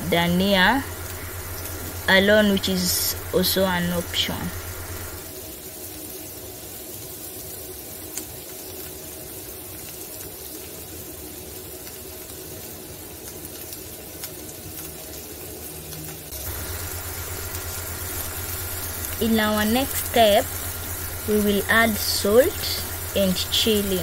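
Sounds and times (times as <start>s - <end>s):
vegetables sizzling in a pan: 0.0s - 24.0s.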